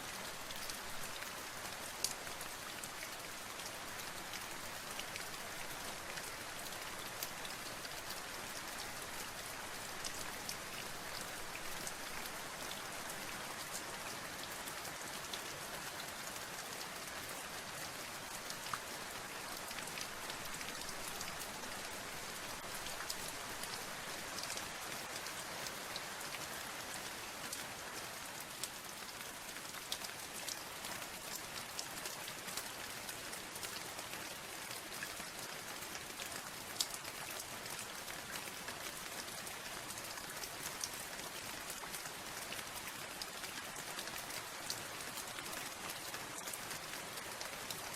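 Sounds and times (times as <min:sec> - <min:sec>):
steady rain: 0:00.0 - 0:47.9
raindrops ticking on a surface: 0:00.1 - 0:47.9.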